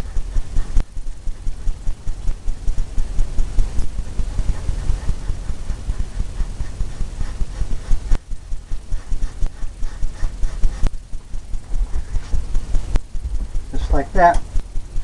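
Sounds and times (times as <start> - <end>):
brush scrubbing on canvas: 0.0 - 12.8.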